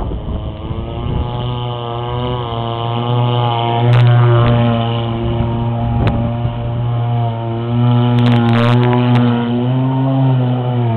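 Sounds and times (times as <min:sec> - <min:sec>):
model boat engine running: 0:00.0 - 0:10.9.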